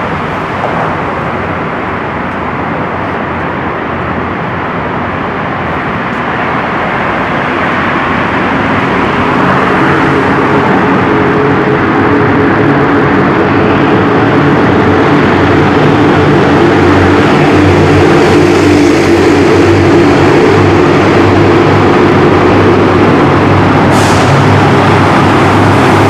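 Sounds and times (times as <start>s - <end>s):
low steady drone: 0.0s - 26.0s
traffic in a road tunnel: 0.0s - 26.0s.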